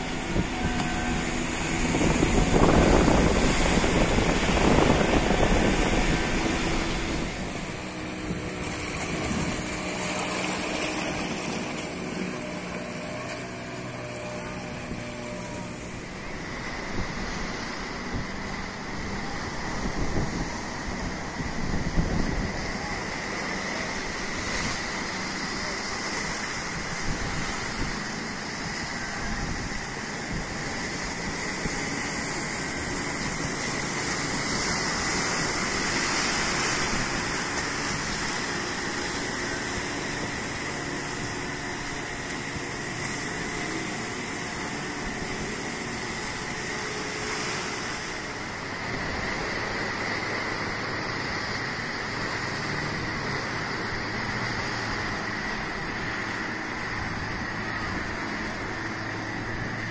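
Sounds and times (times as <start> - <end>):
boat engines motoring past: 0.0 - 59.9
waves washing over rocks: 0.0 - 59.9.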